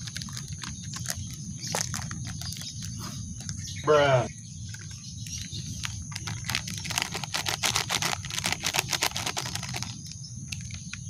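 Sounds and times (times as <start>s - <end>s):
plastic foil sachet crinkling: 0.0s - 3.6s, 4.7s - 11.0s.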